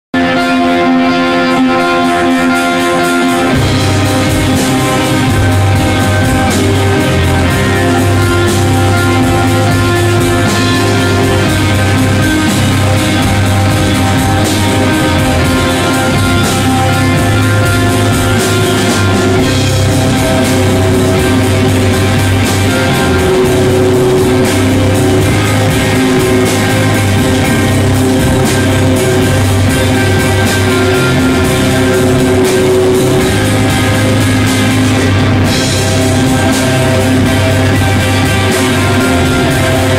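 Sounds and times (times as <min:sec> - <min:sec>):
held electric guitar notes: 0:00.1 - 0:39.9
rock band playing live: 0:00.1 - 0:39.9.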